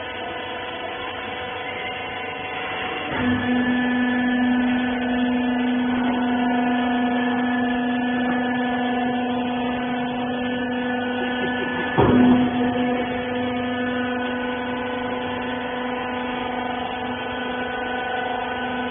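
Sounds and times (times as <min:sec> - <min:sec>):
electric motor and pump humming: 0:00.0 - 0:18.9.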